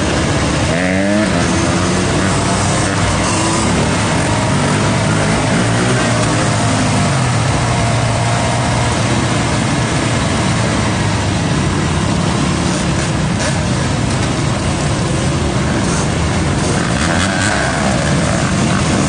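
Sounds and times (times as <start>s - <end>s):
loud noisy rush: 0.0s - 19.0s
motorcycle engines at low speed: 0.0s - 19.0s.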